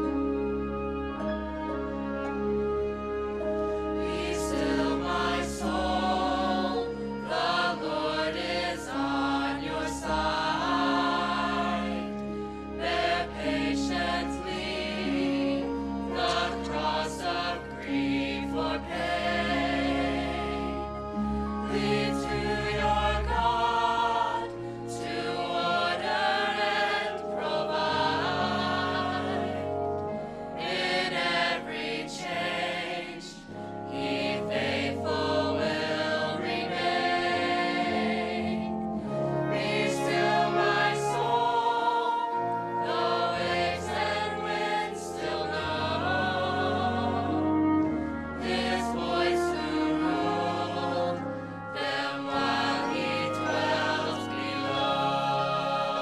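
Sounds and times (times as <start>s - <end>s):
choir singing sacred piece: 0.0s - 56.0s.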